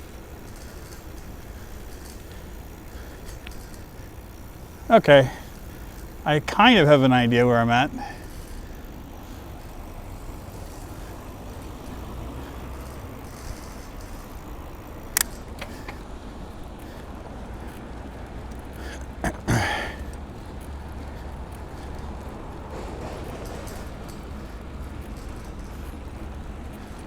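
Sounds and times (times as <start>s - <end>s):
bicycle riding rumble: 0.0s - 27.0s.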